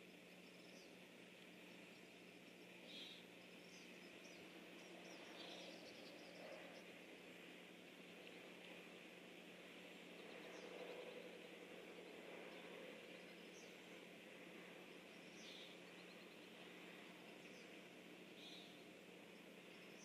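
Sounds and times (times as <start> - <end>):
electrical hum and hiss: 0.0 - 20.0.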